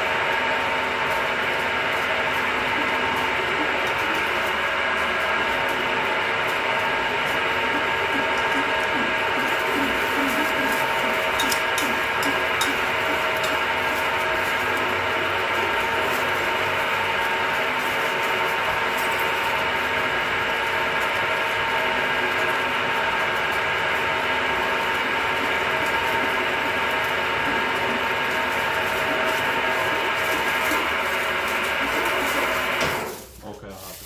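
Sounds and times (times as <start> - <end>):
milling machine whine: 0.0 - 33.2.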